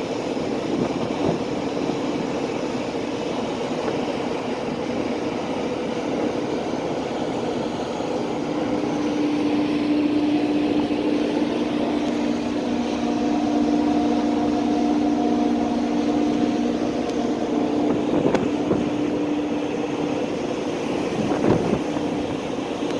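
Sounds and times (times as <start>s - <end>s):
ferry engines droning: 0.0s - 22.9s.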